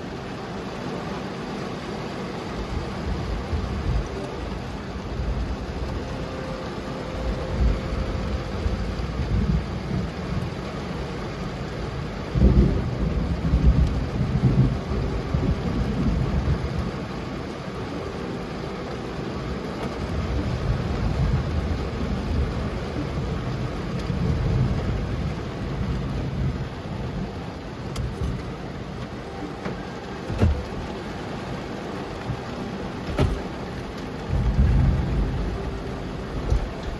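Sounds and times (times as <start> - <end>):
heavy rain on car roof: 0.0 - 36.9
low rumble of thunder: 2.6 - 17.4, 19.4 - 31.3, 32.1 - 36.9.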